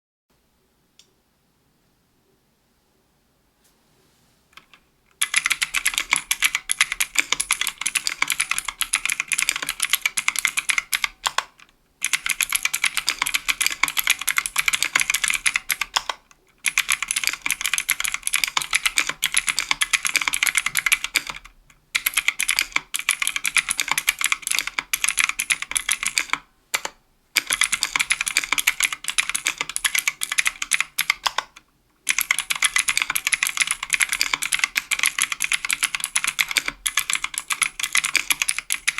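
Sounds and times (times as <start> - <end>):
fast typing on clicky keyboard: 4.6 - 38.9.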